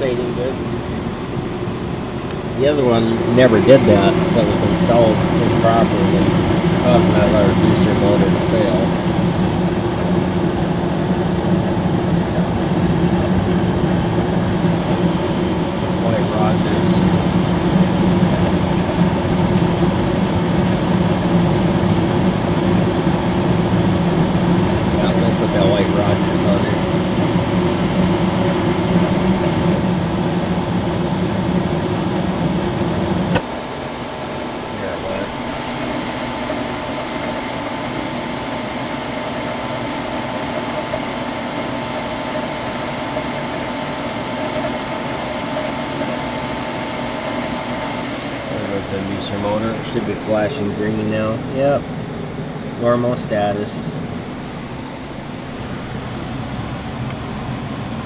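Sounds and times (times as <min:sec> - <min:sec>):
furnace motor humming: 0:00.0 - 0:58.0
steady whine: 0:00.0 - 0:58.0.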